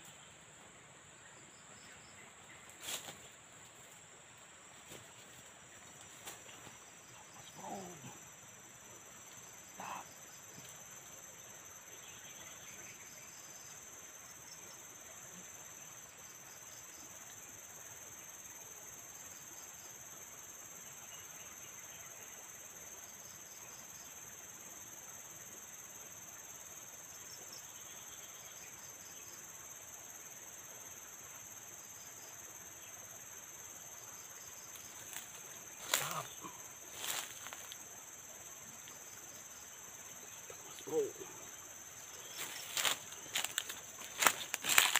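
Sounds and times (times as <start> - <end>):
insect chorus with chirping trills: 0.0 - 44.9.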